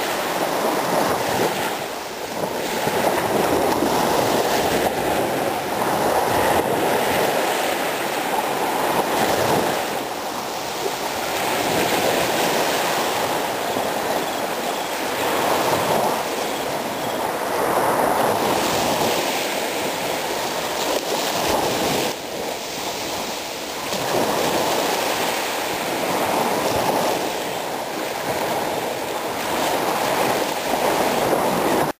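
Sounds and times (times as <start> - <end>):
small waves washing on beach: 0.0 - 32.0.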